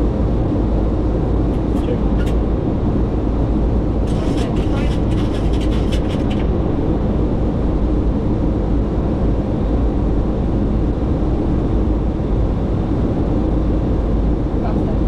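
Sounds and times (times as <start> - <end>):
aircraft cockpit rumble: 0.0 - 15.0.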